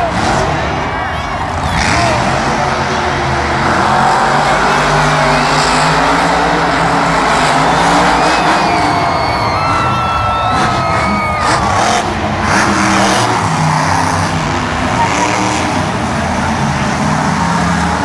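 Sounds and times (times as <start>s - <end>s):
crowd noise: 0.0s - 18.0s
monster truck engine revving: 0.0s - 18.0s.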